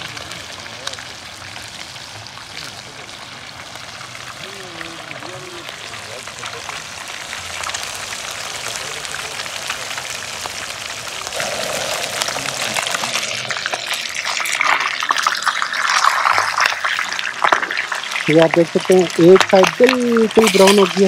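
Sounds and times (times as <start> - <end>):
fish frying in hot oil: 0.0 - 21.0.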